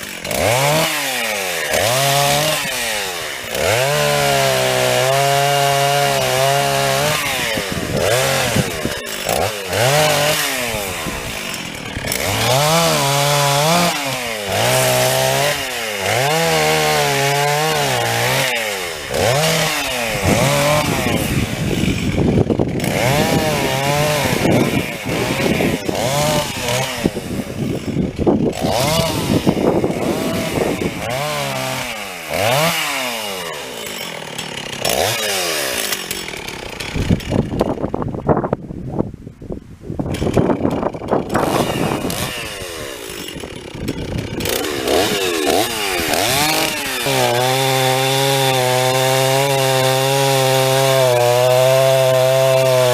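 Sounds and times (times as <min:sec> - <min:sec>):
chainsaw cutting wood: 0:00.0 - 0:38.6, 0:40.0 - 0:52.9.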